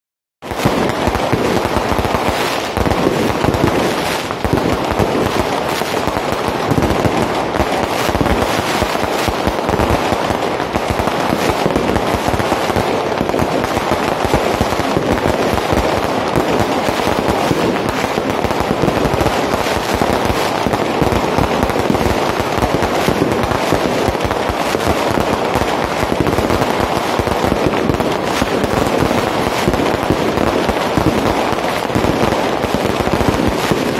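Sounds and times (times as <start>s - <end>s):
fireworks crackling and popping: 0.4s - 33.9s.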